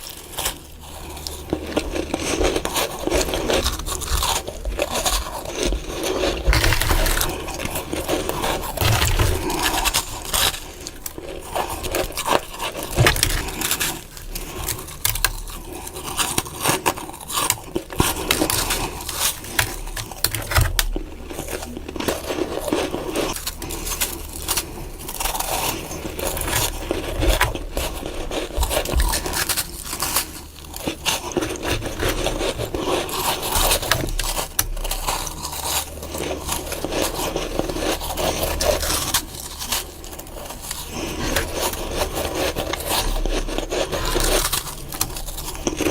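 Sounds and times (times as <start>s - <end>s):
crunching and chewing frost: 0.0s - 45.9s.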